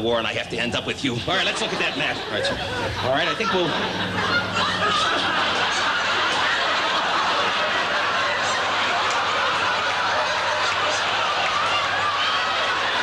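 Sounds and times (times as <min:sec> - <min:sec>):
studio audience laughing: 0:01.2 - 0:13.0.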